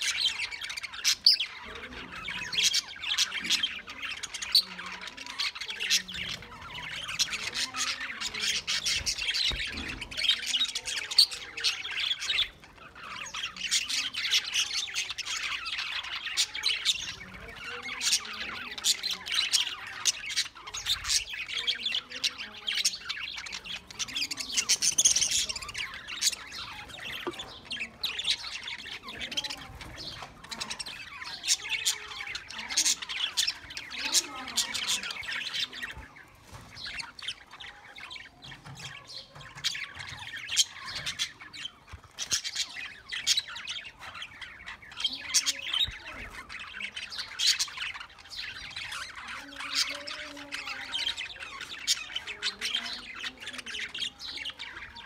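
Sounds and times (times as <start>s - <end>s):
budgerigars chattering and squawking: 0.0s - 55.0s.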